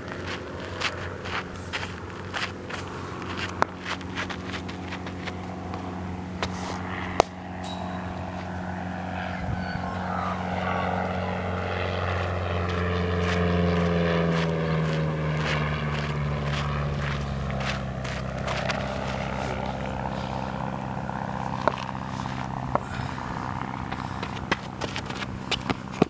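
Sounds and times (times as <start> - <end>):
propeller aircraft passing over: 0.0 - 26.0.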